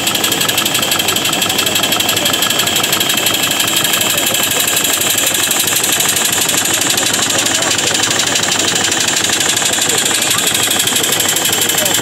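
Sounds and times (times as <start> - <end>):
compressed air engine running: 0.0 - 12.0.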